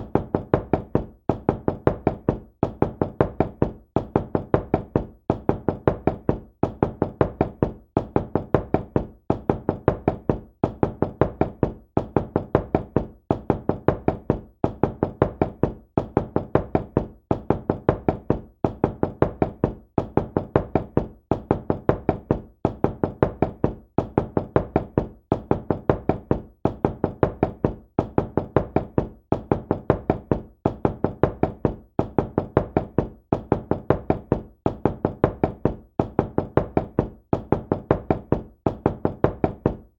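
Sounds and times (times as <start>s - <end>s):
knuckles knocking on a door: 0.0s - 39.9s.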